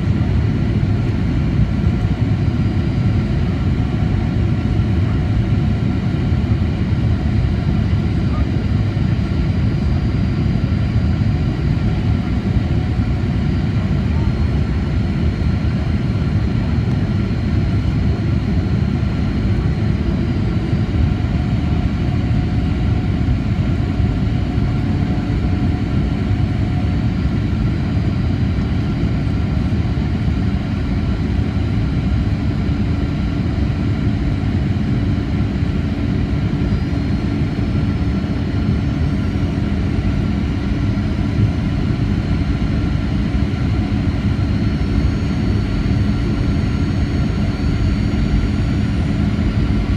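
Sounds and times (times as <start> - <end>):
airplane cabin engine noise: 0.0 - 49.9.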